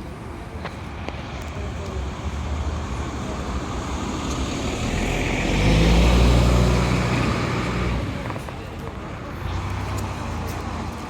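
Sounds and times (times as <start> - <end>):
bus engine driving past: 1.8 - 11.0.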